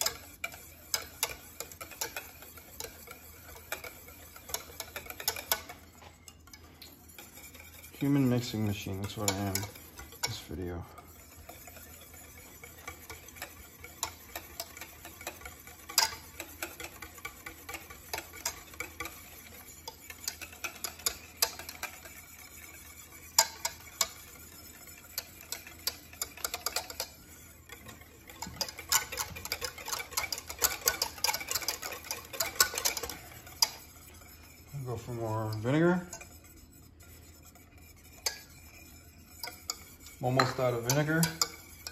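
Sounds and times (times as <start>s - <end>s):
whisk clicking against metal pan: 0.0s - 41.9s.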